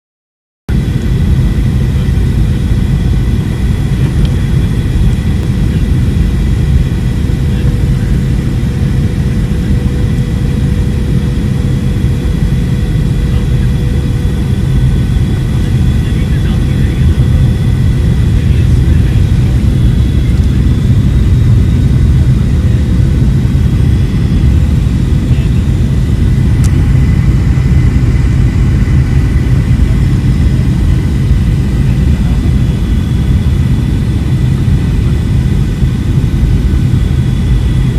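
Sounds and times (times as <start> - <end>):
deep rumble of engines and airflow: 0.7 - 37.9.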